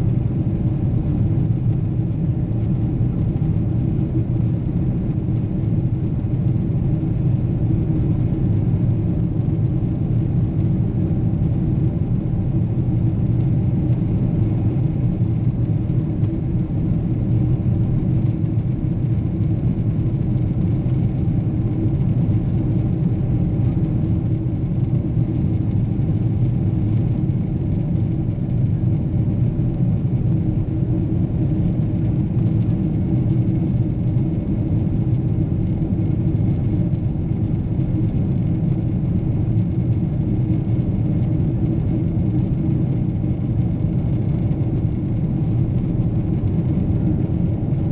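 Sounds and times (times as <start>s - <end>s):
airliner cabin engine drone: 0.0s - 47.9s
faint steady hum: 0.0s - 47.9s.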